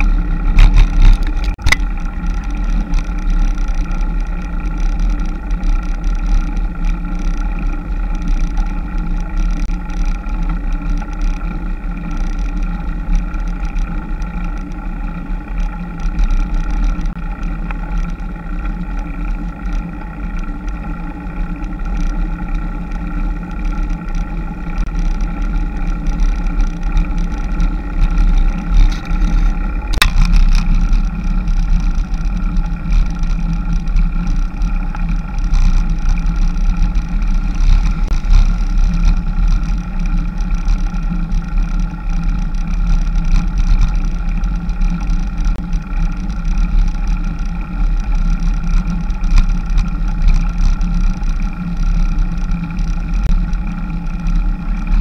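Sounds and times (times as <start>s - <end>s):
droning hum: 0.0s - 55.0s.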